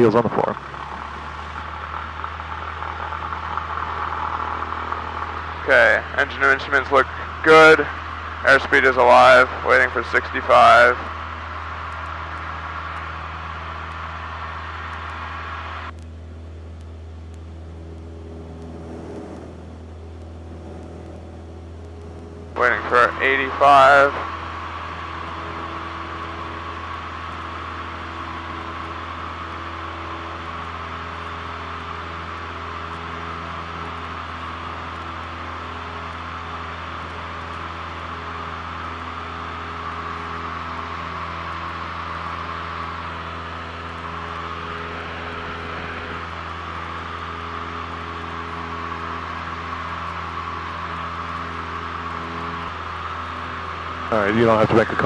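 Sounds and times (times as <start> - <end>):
small plane engine and propeller: 0.0 - 55.0.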